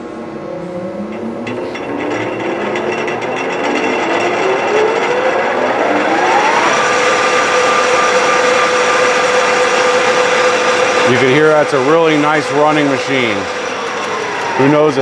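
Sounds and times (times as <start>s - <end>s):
lathe whine spinning up: 0.0s - 15.0s.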